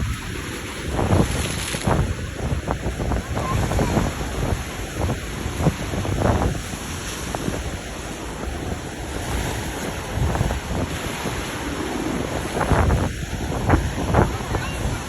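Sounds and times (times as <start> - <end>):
sea waves washing in: 0.0 - 15.0
wind rumbling on microphone: 0.0 - 15.0.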